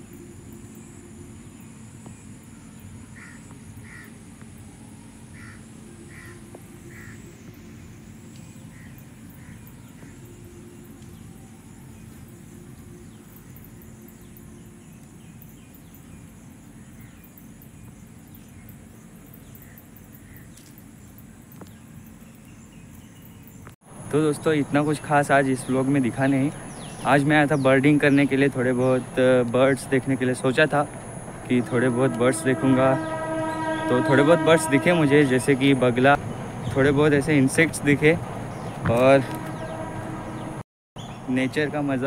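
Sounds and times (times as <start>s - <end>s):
insects trilling: 0.0s - 40.1s.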